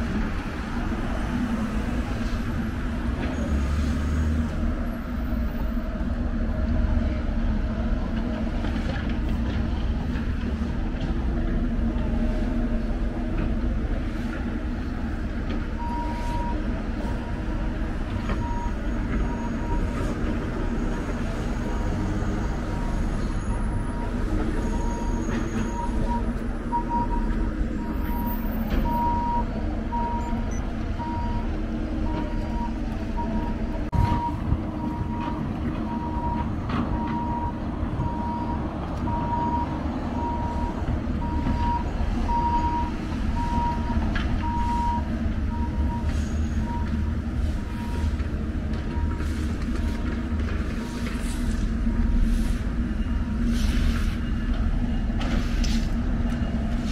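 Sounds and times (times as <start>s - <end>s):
city traffic rumble: 0.0s - 56.9s.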